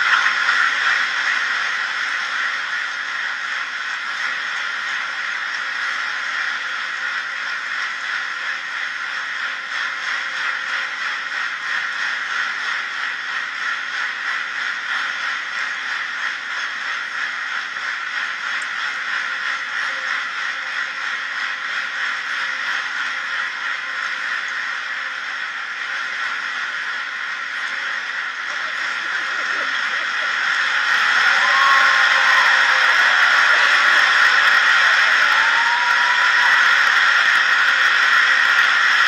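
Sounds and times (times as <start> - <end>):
large crowd applauding: 0.0 - 20.6, 28.4 - 39.0.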